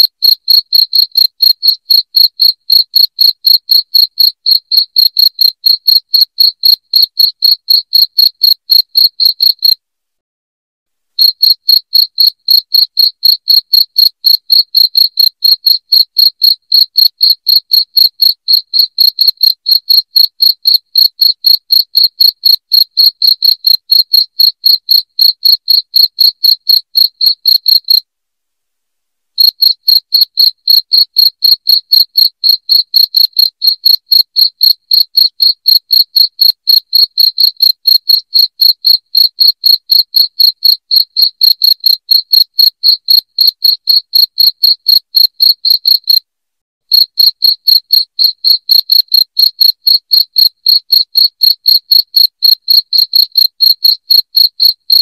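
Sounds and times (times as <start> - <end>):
cricket chirping: 0.0 - 9.8, 11.2 - 28.0, 29.4 - 46.2, 46.9 - 54.8.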